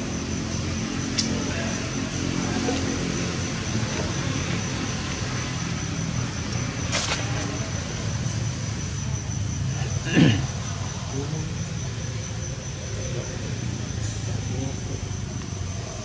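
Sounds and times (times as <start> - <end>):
vehicle engine hum: 0.0 - 16.0.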